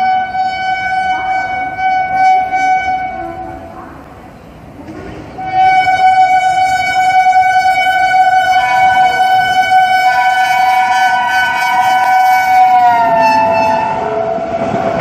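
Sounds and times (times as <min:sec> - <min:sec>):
locomotive air horn blast: 0:00.0 - 0:03.7, 0:05.4 - 0:15.0.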